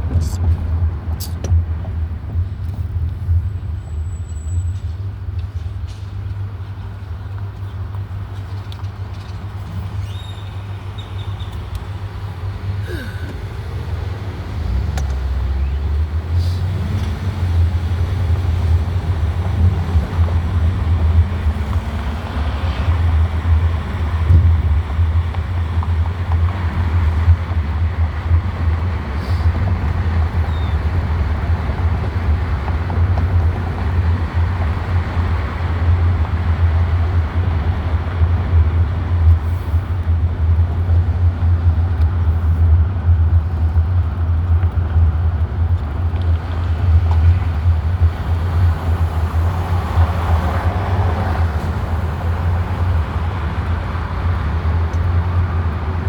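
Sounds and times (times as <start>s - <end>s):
vehicle rumbling on the move: 0.0s - 56.0s.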